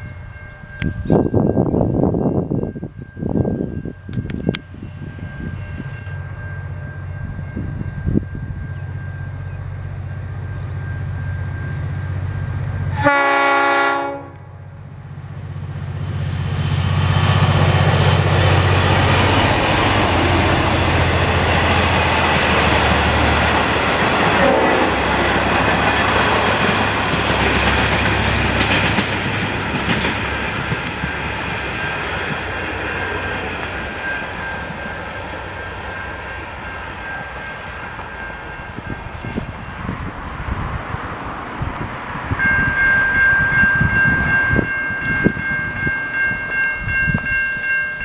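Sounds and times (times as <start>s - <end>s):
diesel locomotive engine passing: 0.0s - 48.0s.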